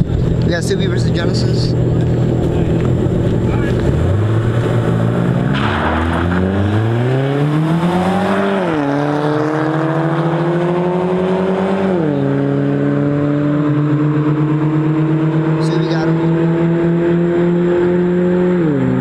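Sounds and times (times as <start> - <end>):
car engines accelerating hard: 0.0 - 19.0.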